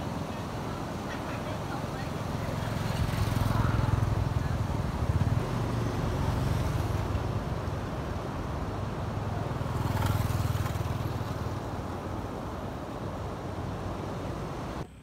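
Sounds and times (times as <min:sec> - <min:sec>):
small motorbikes passing: 0:00.0 - 0:14.8
traffic noise: 0:00.0 - 0:15.0.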